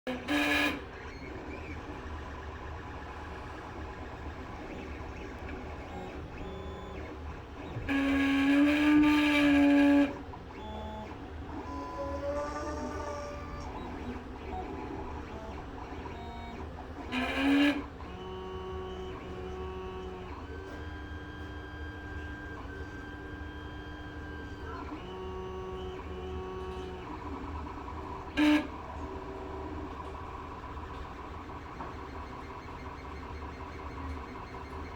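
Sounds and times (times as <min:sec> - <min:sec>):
printer motors whining: 0:00.1 - 0:34.9.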